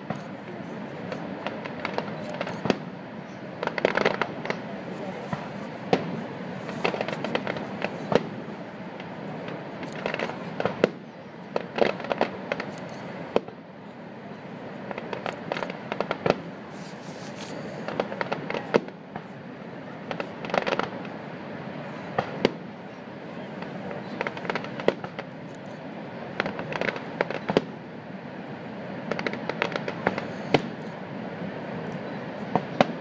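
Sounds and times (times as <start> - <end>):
fireworks bangs: 0.0 - 25.5, 26.2 - 27.9, 28.8 - 33.0
fireworks crackling: 0.0 - 33.0.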